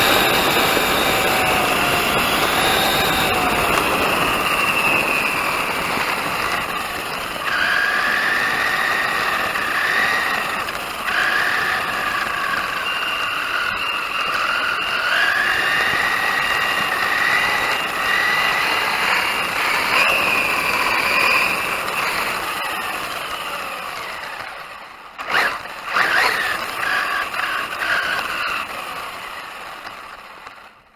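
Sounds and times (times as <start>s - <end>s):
electric motor whine: 0.0s - 30.6s
tyre and gear noise: 0.0s - 30.8s.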